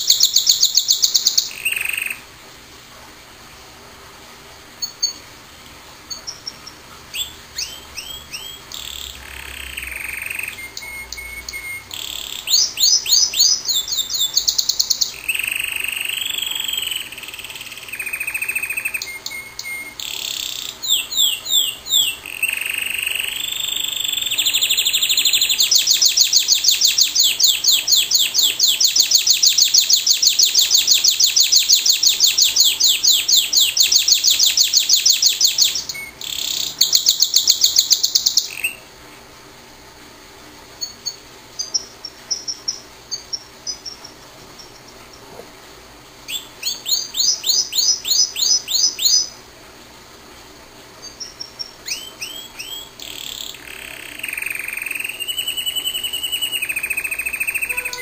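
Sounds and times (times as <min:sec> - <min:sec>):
canary singing trills: 0:00.0 - 0:02.3, 0:04.8 - 0:05.3, 0:06.1 - 0:38.9, 0:40.8 - 0:45.4, 0:46.2 - 0:49.4, 0:51.0 - 0:58.0.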